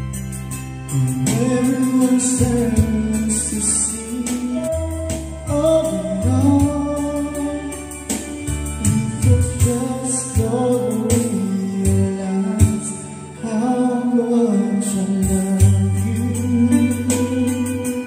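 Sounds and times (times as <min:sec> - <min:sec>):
slow love song backing track: 0:00.0 - 0:18.0
person singing: 0:00.8 - 0:18.0.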